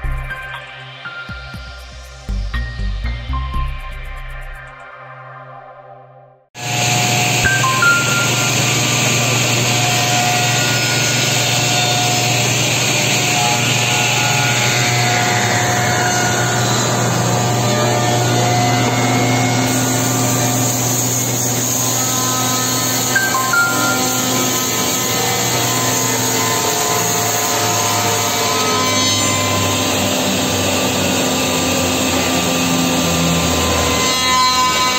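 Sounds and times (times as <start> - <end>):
machine spindles whining: 6.6 - 34.9.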